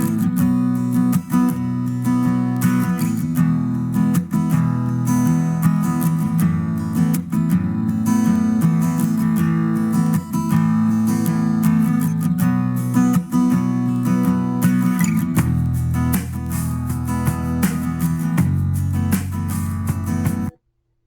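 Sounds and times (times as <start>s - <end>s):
strummed acoustic guitar: 0.0s - 20.6s.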